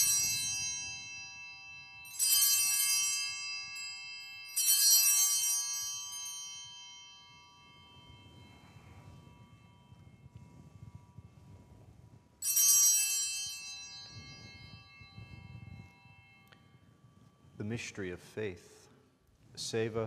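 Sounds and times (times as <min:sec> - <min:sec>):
altar bells jangling: 0:00.0 - 0:19.8.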